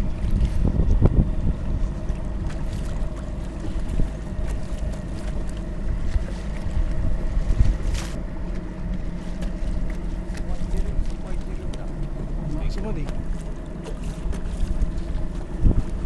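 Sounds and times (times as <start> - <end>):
boat engine humming: 0.0 - 16.0
water noise: 0.0 - 16.0
wind: 0.0 - 16.0.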